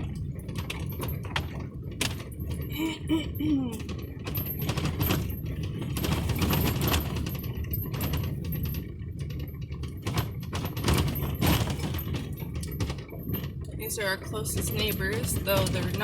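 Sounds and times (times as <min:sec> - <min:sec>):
loose objects rattling and clinking: 0:00.0 - 0:02.8, 0:03.7 - 0:16.0
truck rumbling on dirt road: 0:00.0 - 0:16.0.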